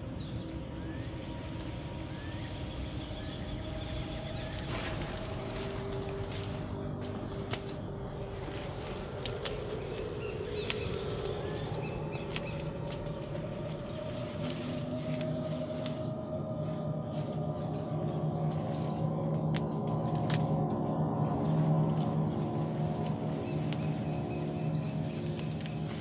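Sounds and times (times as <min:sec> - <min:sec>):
leaves rustling: 0:00.0 - 0:26.0
steady low drone: 0:00.0 - 0:26.0
footsteps crunching on dry stalks: 0:00.2 - 0:26.0.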